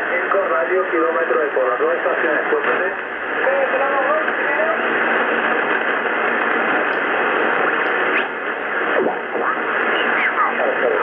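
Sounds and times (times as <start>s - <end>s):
radio receiver static hiss: 0.0s - 11.0s.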